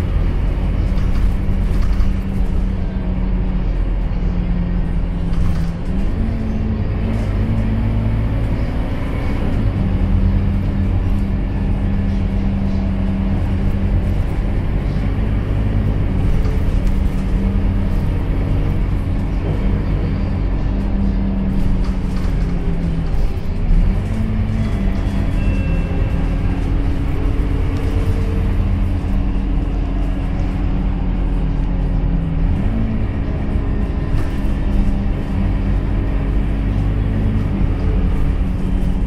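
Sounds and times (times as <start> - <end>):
bus diesel engine drone: 0.0 - 39.0.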